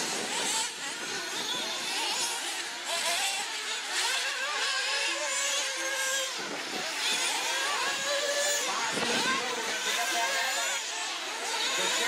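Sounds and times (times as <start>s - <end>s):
rc car engines whining: 0.0s - 12.0s.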